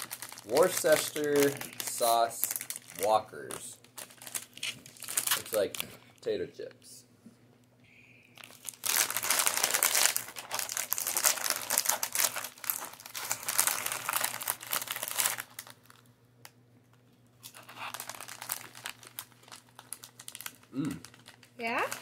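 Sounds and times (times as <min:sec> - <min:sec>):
crisp packet crinkling: 0:00.0 - 0:06.4, 0:08.3 - 0:16.1, 0:17.4 - 0:22.0.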